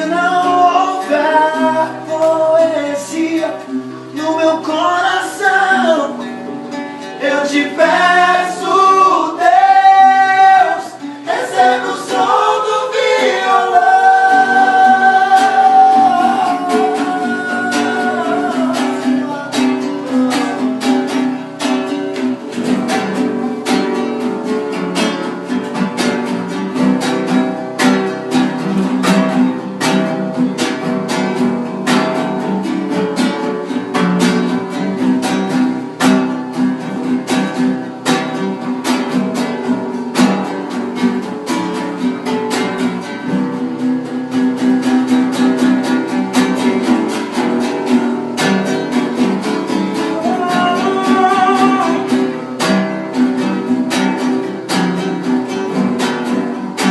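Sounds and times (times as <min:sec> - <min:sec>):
acoustic guitar playing: 0:00.0 - 0:56.9.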